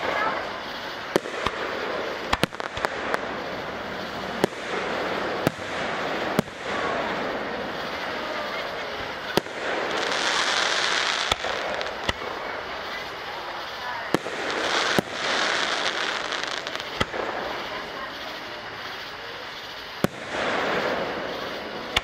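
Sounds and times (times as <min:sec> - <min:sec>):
background hiss: 0:00.0 - 0:22.0
fireworks bursting: 0:00.0 - 0:22.0.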